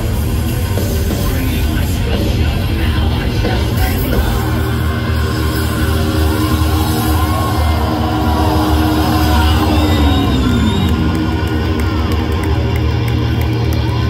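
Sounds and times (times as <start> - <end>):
bass guitar: 0.0 - 14.0
distorted electric guitars: 0.0 - 14.0.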